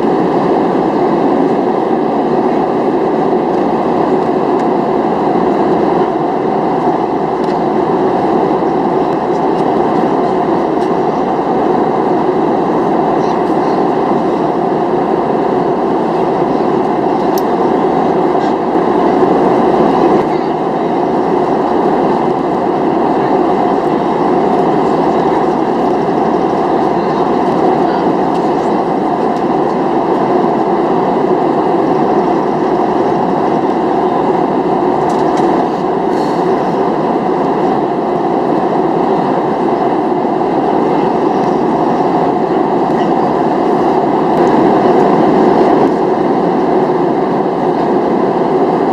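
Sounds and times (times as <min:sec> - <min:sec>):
airplane cabin noise: 0:00.0 - 0:48.9.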